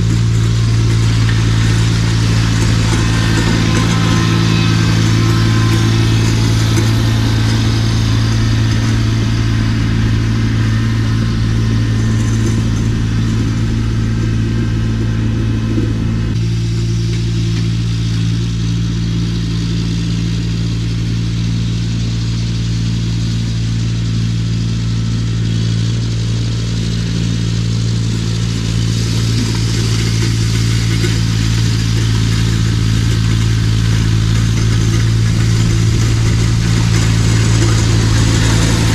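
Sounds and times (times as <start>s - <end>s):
high-pitched mechanical noise: 0.0s - 38.9s
tractor engine running: 0.0s - 38.9s.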